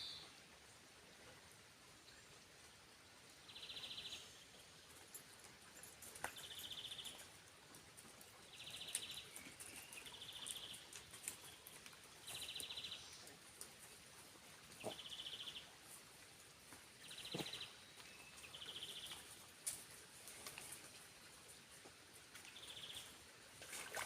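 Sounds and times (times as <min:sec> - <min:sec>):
faint background hiss: 0:00.0 - 0:24.0.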